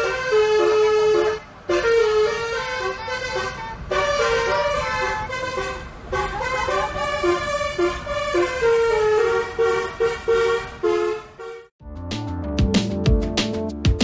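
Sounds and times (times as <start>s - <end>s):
musical air horn tune: 0.0s - 11.7s.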